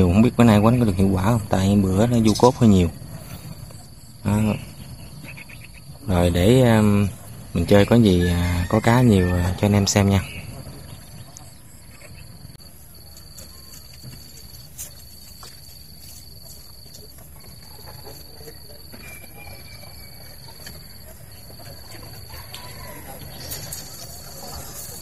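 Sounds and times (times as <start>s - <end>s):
insect trilling: 0.0s - 25.0s.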